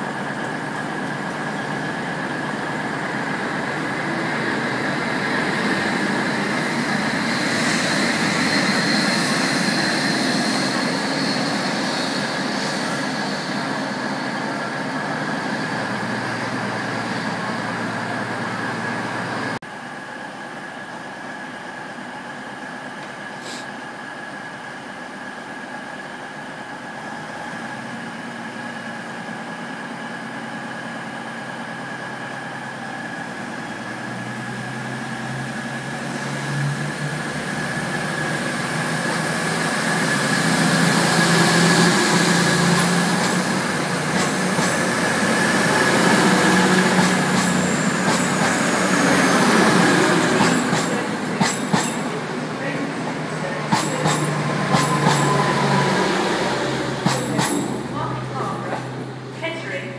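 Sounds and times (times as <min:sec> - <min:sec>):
train coaches rolling: 0:00.0 - 0:19.6, 0:20.6 - 0:59.9
high whine: 0:00.0 - 0:24.9, 0:25.8 - 0:59.9
diesel train idling: 0:00.0 - 0:59.9.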